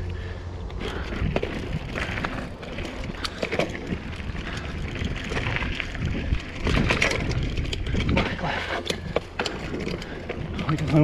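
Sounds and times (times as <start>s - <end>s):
bike clicks and rattles: 0.0s - 11.0s
bike tyres rumbling on dirt: 0.0s - 11.0s.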